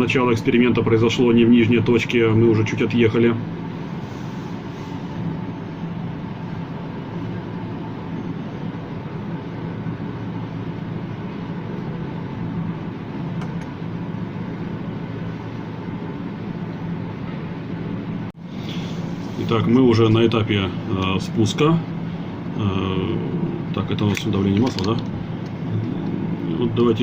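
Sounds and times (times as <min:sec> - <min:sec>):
steady low hum: 0:00.0 - 0:27.0
rushing background noise: 0:02.4 - 0:27.0.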